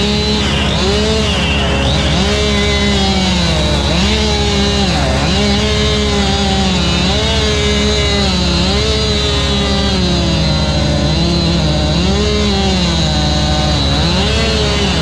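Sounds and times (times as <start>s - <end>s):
chainsaw cutting at high revs: 0.0s - 15.0s
steady engine note: 0.0s - 15.0s.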